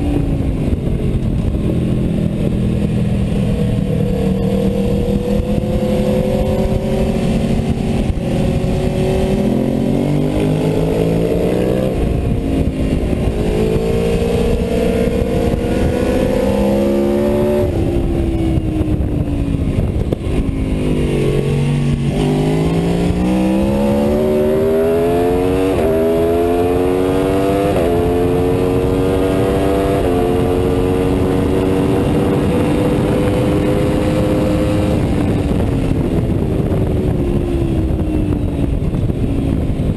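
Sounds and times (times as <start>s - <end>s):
motorcycle engine accelerating: 0.0s - 39.9s
wind rushing: 0.0s - 39.9s.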